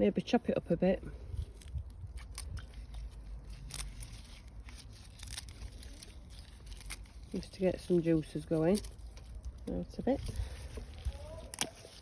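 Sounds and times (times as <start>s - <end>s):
crisp cuts of plant stems: 1.2s - 12.0s.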